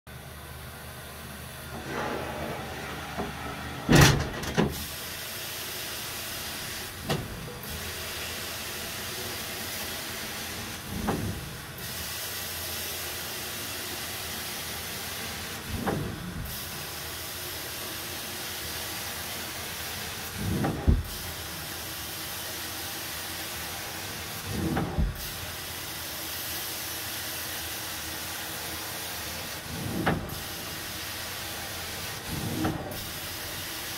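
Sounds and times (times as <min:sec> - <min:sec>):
carpet extraction machine suction hiss: 0:04.7 - 0:33.9.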